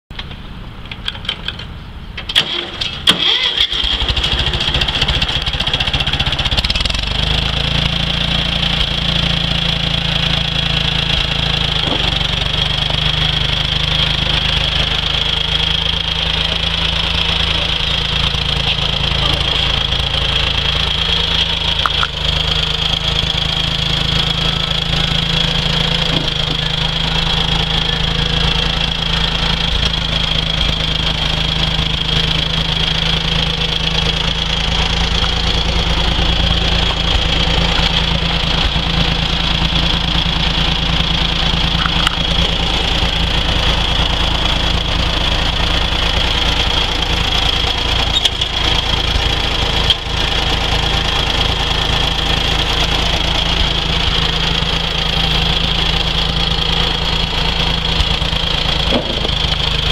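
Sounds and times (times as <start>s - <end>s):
tractor engine starting and running: 0.0s - 59.9s.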